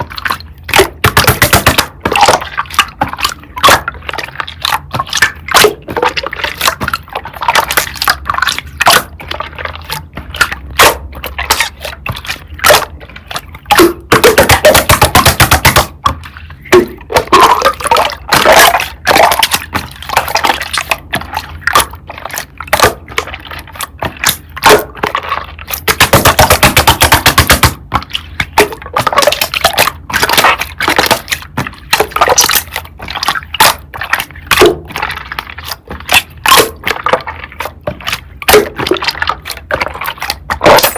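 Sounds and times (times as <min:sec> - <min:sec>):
slime being squished: 0:00.0 - 0:40.9.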